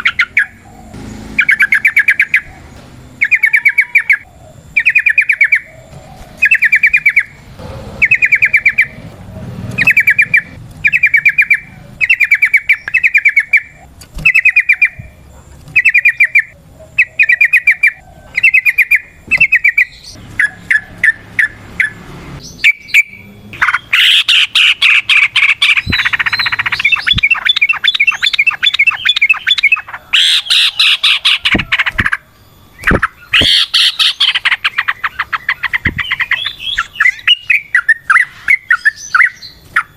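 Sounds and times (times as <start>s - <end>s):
bird calling: 0.0s - 39.9s
rapid chattering bird song: 0.0s - 39.9s.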